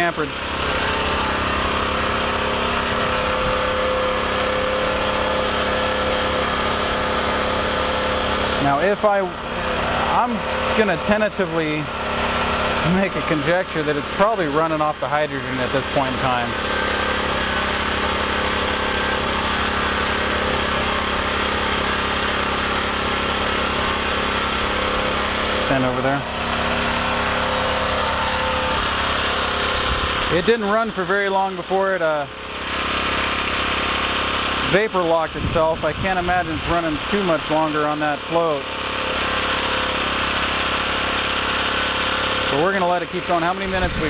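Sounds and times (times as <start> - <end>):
generator engine running: 0.0 - 44.0.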